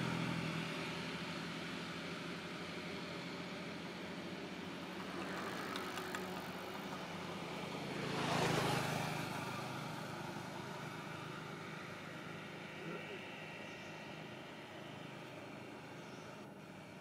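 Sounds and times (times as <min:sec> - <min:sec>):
motorbike passing by: 0:00.0 - 0:17.0.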